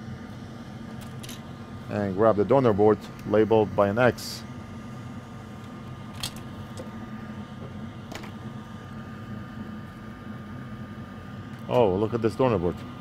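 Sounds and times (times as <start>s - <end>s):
low machine hum with whine: 0.0s - 13.0s.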